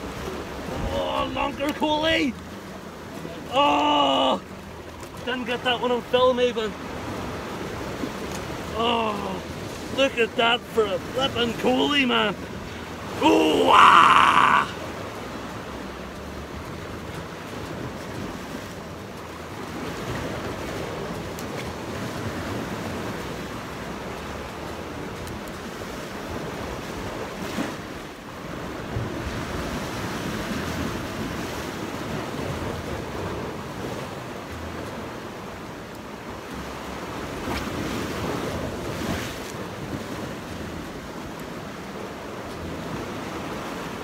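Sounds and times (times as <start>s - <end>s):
sea waves washing against rocks: 0.0s - 44.0s.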